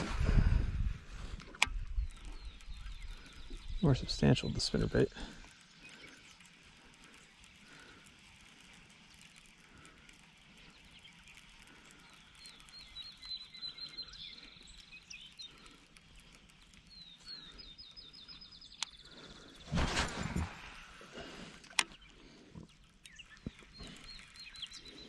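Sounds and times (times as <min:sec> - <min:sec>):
quiet outdoor ambience: 0:00.0 - 0:25.0.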